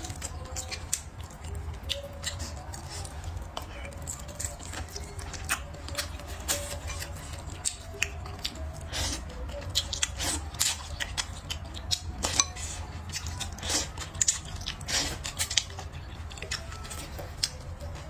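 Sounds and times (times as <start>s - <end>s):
chewing with wet clicks: 0.0s - 18.0s.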